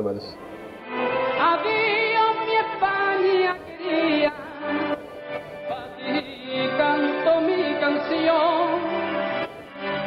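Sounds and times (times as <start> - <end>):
live band playing: 0.0 - 10.0.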